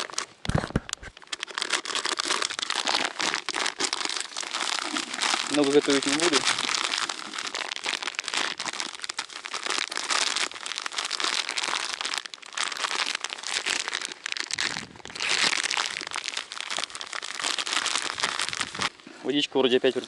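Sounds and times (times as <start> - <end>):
hands mixing dry groundbait: 1.1 - 20.0.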